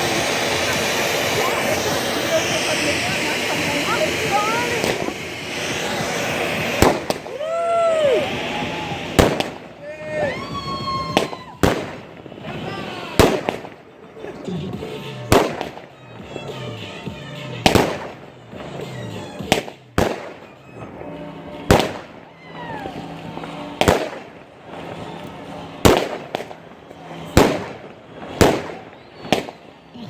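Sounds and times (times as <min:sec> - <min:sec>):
firework shells bursting: 0:00.0 - 0:13.8, 0:14.7 - 0:30.0.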